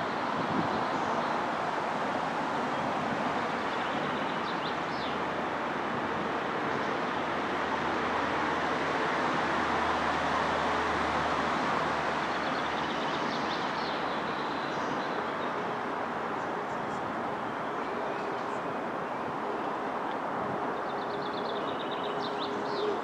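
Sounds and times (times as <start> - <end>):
distant traffic hum: 0.0 - 23.0.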